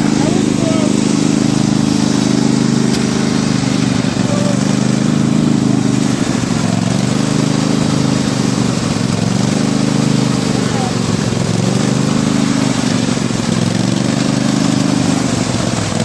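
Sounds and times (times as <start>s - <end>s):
riding lawn mower engine: 0.0s - 16.0s.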